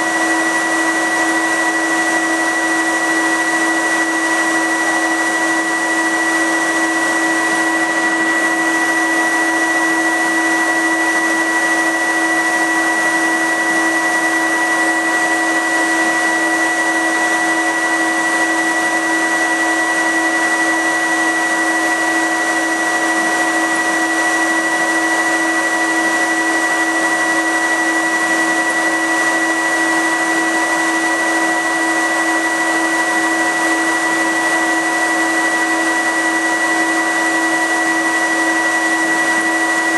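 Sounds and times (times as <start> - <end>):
fume filter blower running: 0.0 - 39.9.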